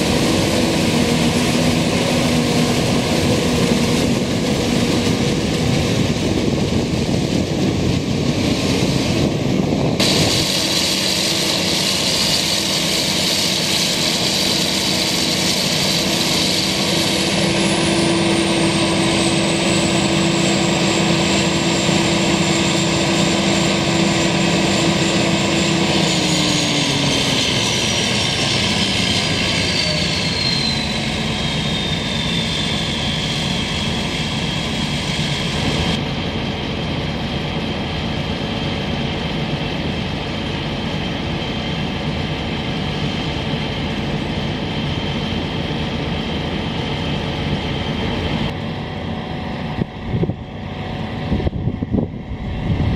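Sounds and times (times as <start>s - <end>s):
forage harvester engine and cutterhead: 0.0s - 52.9s
high-pitched machine whine: 0.0s - 52.9s.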